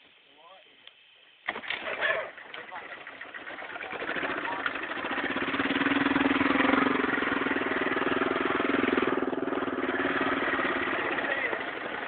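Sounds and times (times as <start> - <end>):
vehicle engine running: 1.5 - 12.0.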